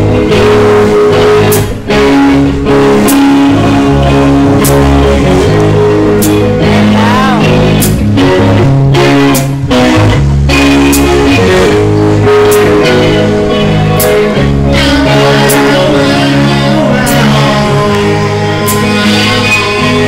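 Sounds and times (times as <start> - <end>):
guitar note bending: 0.0 - 20.0
heavy metal band playing: 0.0 - 20.0.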